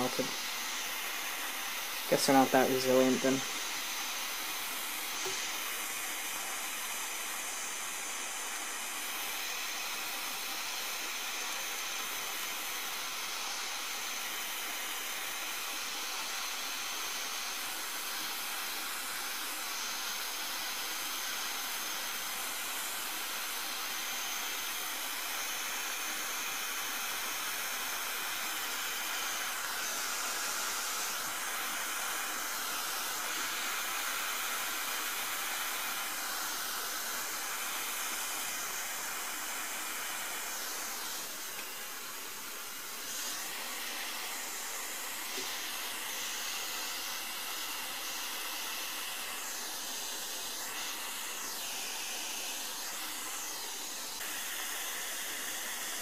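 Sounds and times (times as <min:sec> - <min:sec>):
blowtorch flame hissing: 0:00.0 - 0:56.0.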